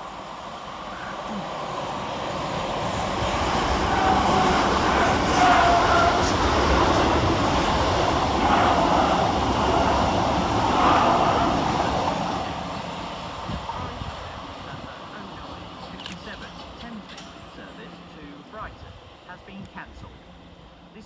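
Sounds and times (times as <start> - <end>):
train passing fast: 0.0 - 21.0.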